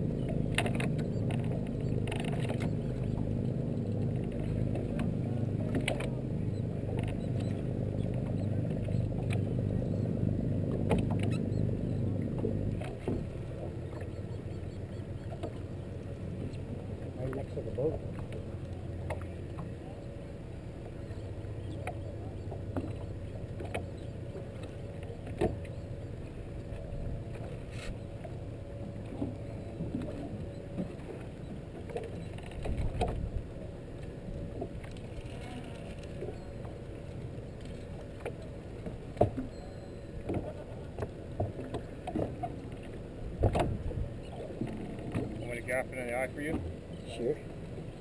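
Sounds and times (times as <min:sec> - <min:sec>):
low rumble of hull and water: 0:00.0 - 0:48.0.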